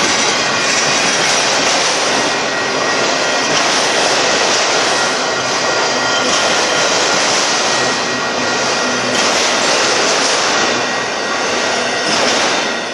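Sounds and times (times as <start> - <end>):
freight train cars rolling past: 0.0 - 12.9
steel wheels ringing on rail: 0.0 - 12.9.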